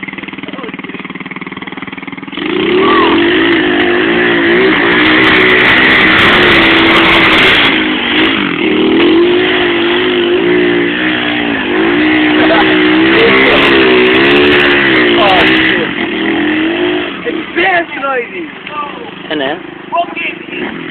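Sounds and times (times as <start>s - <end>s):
pit bike engine revving: 0.0s - 20.9s.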